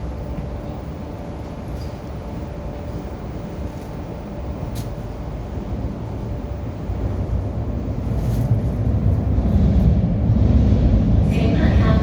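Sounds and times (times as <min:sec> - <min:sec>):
train rumbling inside car: 0:00.0 - 0:12.0.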